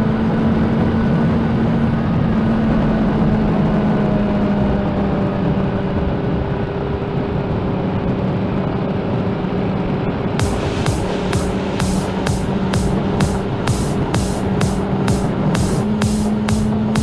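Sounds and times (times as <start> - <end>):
wind rush on microphone: 0.0 - 17.0
motorcycle engine cruising: 0.7 - 17.0.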